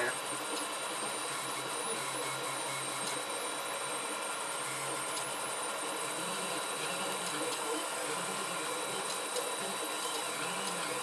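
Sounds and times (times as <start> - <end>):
printer fans hissing: 0.0 - 11.0
stepper motors whining: 0.0 - 11.0.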